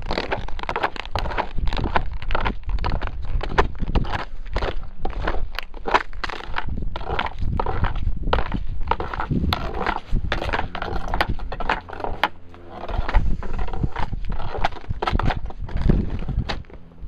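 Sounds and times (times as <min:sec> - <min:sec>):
footsteps crunching on snow: 0:00.0 - 0:16.9.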